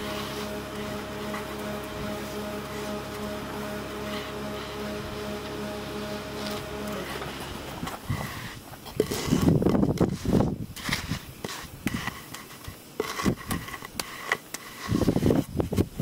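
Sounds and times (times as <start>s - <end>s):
board scraping wet concrete: 0.0s - 3.4s, 6.4s - 15.9s.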